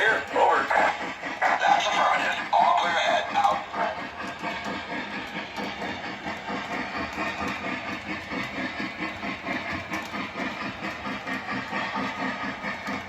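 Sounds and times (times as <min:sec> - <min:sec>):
model train steam chuffing: 0:00.0 - 0:13.0.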